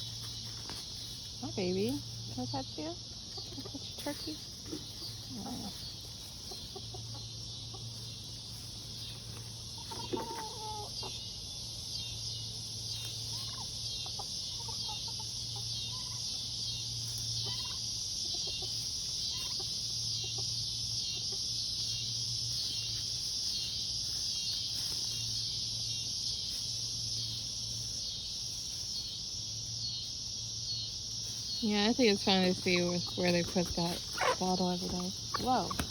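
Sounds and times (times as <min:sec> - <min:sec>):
poultry clucking: 0:00.0 - 0:11.9, 0:12.9 - 0:25.2, 0:31.3 - 0:35.9
insects droning: 0:00.0 - 0:35.9.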